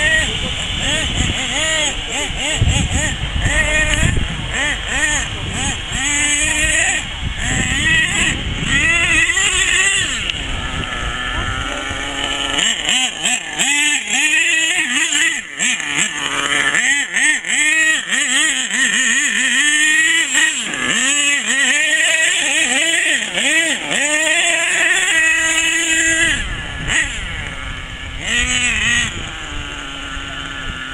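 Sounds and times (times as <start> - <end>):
small nitro engine buzzing: 0.0 - 30.9.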